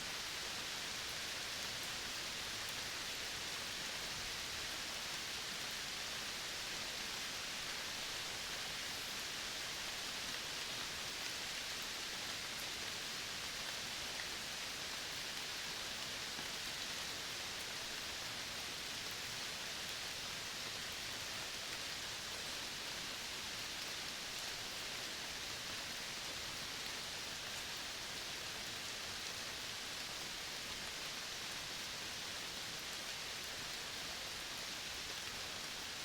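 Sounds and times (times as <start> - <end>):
high outdoor nature hiss: 0.0 - 36.0.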